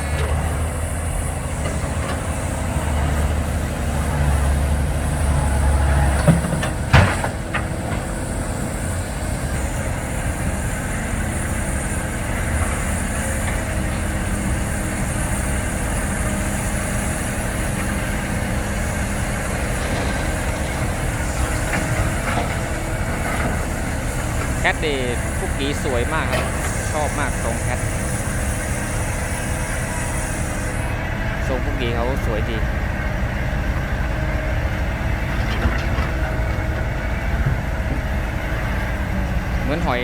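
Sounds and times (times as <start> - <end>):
heavy diesel machinery engine: 0.0 - 40.0.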